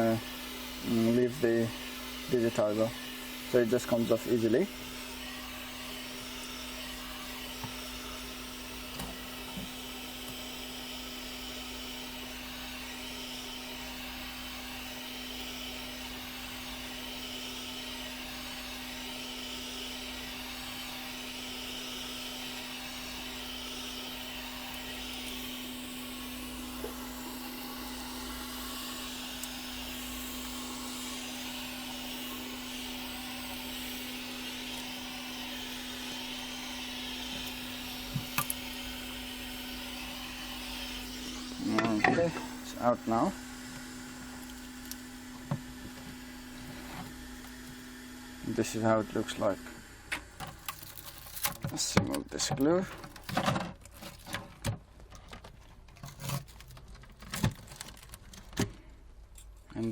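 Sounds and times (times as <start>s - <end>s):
hot-air blower humming and hissing: 0.0s - 50.7s.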